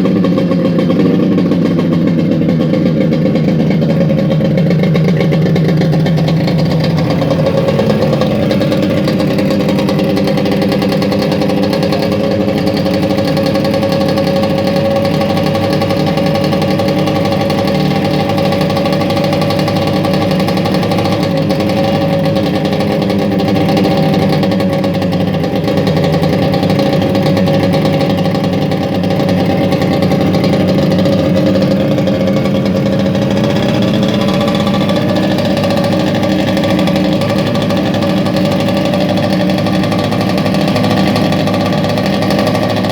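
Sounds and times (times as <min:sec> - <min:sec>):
jet surfboard engine running: 0:00.0 - 0:42.9.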